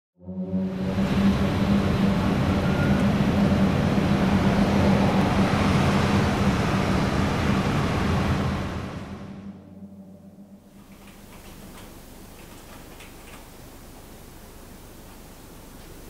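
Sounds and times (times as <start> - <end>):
ambient rumble: 0.2 - 16.0
low hum: 0.2 - 16.0.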